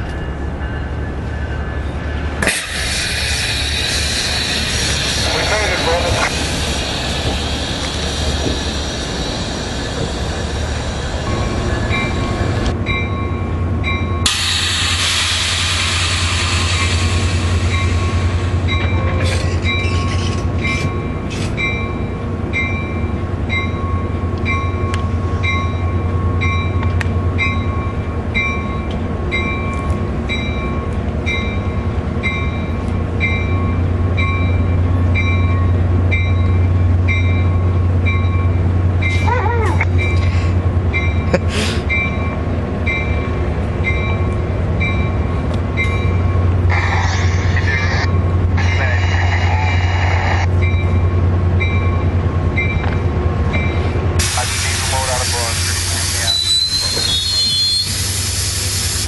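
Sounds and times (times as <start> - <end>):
train rumbling on tracks: 0.0 - 59.0.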